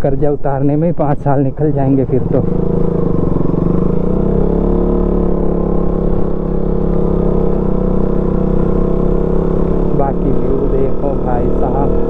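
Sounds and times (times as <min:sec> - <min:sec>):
wind and road rumble: 0:00.0 - 0:12.0
motorcycle engine cruising: 0:00.9 - 0:12.0.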